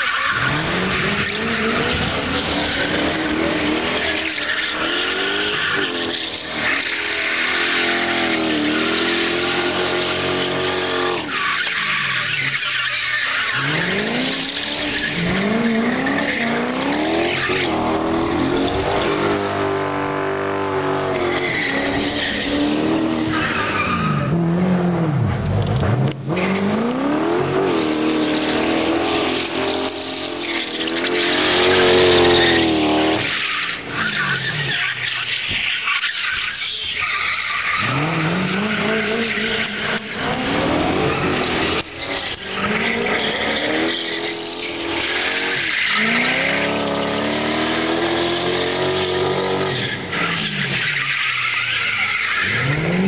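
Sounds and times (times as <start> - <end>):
tyre squeal: 0.0 - 24.4, 26.4 - 53.0
car engine revving: 0.0 - 53.0.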